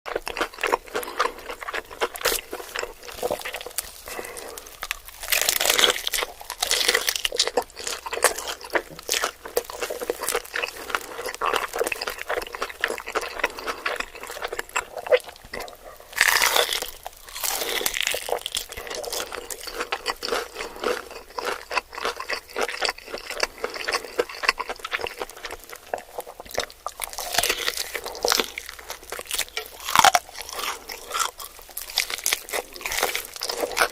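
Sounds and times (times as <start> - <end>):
person chewing and crunching: 0.1 - 33.9.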